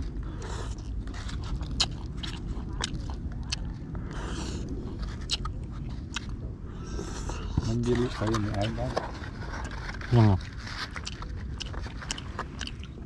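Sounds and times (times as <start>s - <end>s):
person chewing: 0.0s - 8.8s, 9.6s - 13.0s.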